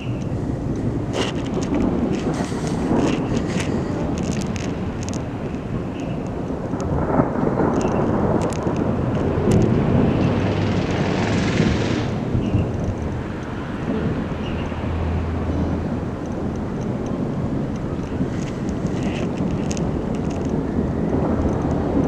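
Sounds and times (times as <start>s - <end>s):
thunder rumbling: 0.0s - 22.0s
wind rushing: 0.0s - 22.0s.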